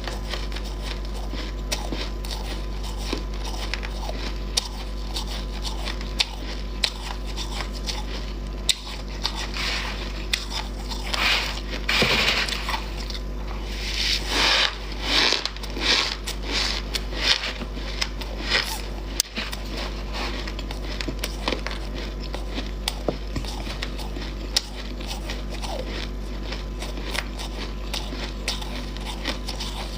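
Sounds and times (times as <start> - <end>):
frost being chewed: 0.0 - 29.9.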